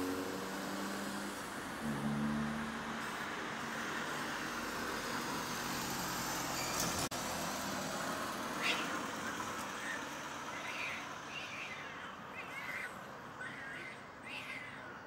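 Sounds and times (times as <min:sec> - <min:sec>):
road traffic: 0:00.0 - 0:15.0
vehicle engine low hum: 0:00.0 - 0:15.0.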